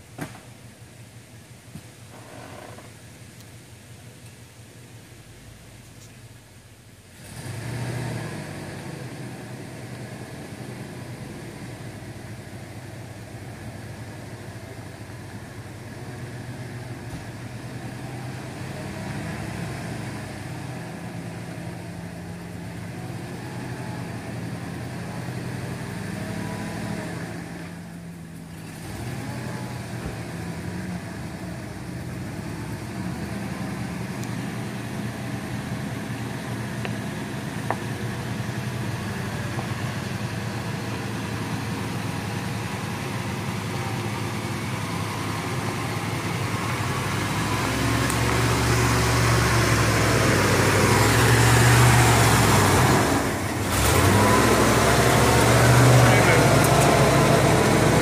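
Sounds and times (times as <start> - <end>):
truck engine running at low revs: 0.0 - 58.0.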